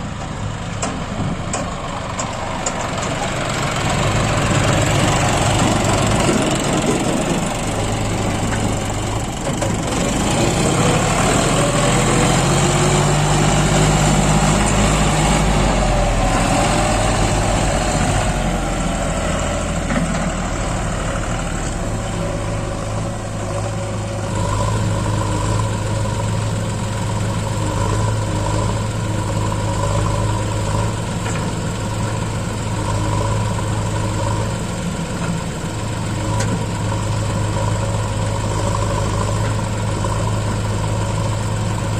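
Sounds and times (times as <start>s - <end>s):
heavy diesel engine revving: 1.4s - 41.9s.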